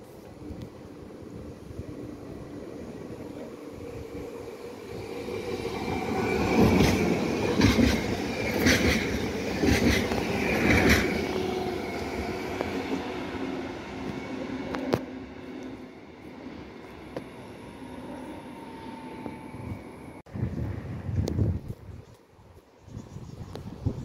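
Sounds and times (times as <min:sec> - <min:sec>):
passenger train passing: 0:00.0 - 0:21.4.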